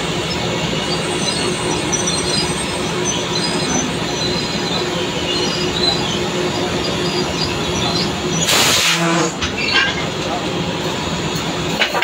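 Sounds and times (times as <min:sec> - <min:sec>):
machinery running with loud din: 0:00.0 - 0:12.0
high metallic squeaks: 0:00.2 - 0:10.0.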